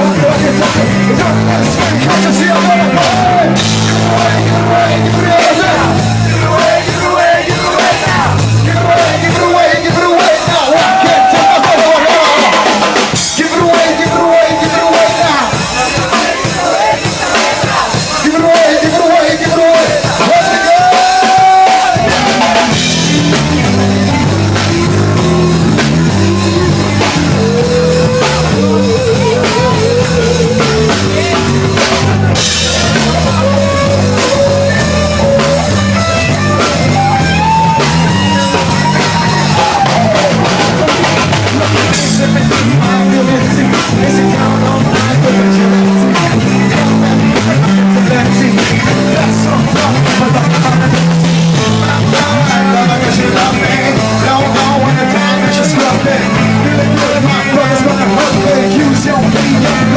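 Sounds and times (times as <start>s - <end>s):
busy bass line: 0.0s - 59.9s
drum kit beat: 0.0s - 59.9s.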